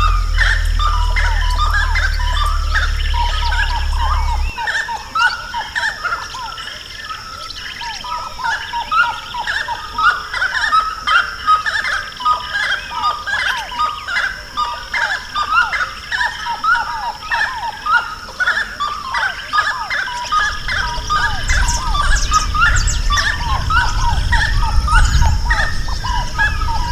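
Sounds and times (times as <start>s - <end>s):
chorus of birds calling: 0.0s - 26.9s
steady high-pitched whine: 0.0s - 26.9s.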